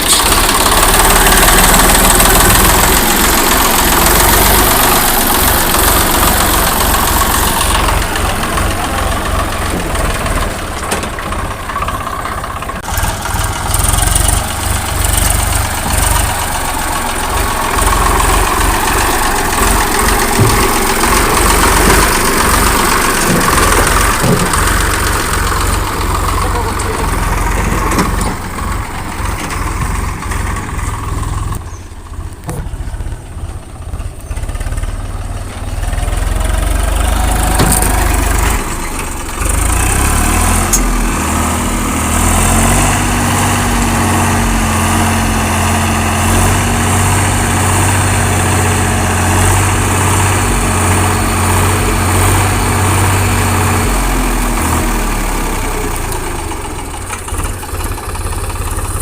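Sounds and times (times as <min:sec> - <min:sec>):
diesel tractor engine revving: 0:00.0 - 0:59.0.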